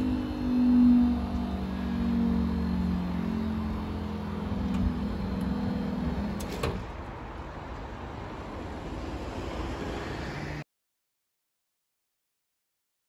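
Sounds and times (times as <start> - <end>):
vehicle engine humming: 0.0 - 10.6.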